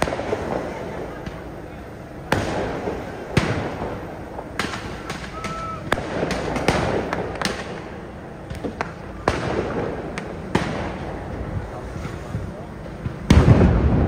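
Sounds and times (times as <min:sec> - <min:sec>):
firework mortar bangs: 0:00.0 - 0:14.0.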